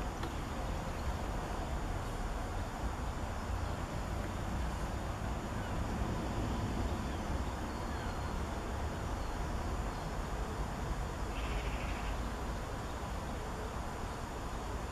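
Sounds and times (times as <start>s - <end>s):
faint hiss: 0.0s - 14.9s.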